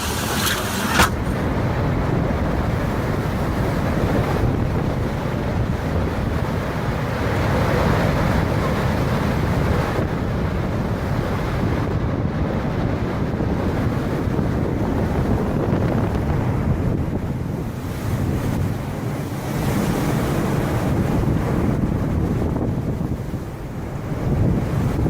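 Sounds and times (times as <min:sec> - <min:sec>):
storm wind buffeting microphone: 0:00.0 - 0:25.0.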